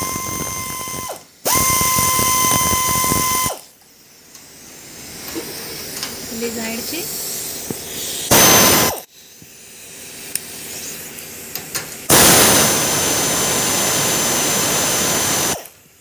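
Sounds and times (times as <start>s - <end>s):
pneumatic air ratchet running: 0.0s - 6.5s, 7.1s - 11.2s, 12.1s - 15.8s.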